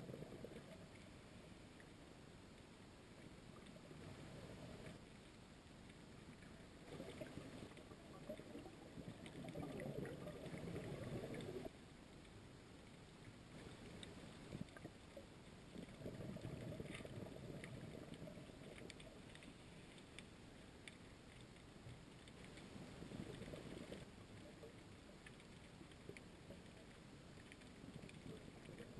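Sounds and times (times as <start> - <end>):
faint underwater clicks: 0.0 - 28.9
underwater rumbling water: 0.0 - 28.9.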